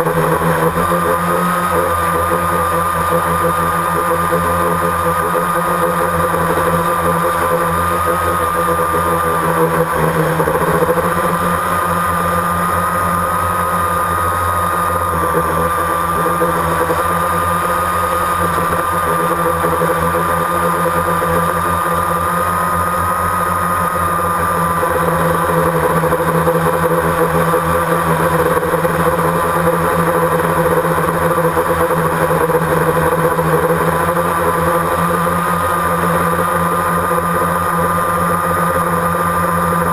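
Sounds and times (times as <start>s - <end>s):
drone motors whirring: 0.0s - 39.9s.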